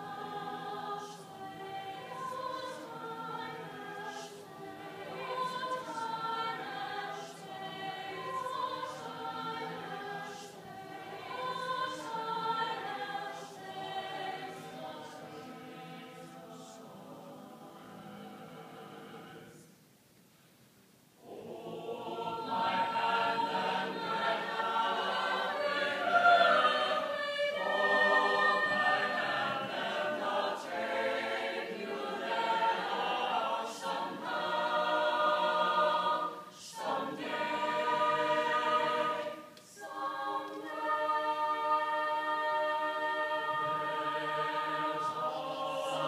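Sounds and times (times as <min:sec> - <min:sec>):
choir singing: 0:00.0 - 0:19.8, 0:21.2 - 0:46.0.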